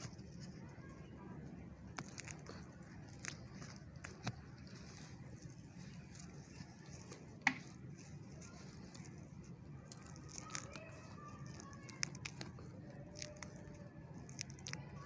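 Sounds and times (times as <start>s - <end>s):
plant stems snapping and crackling: 1.8s - 15.0s.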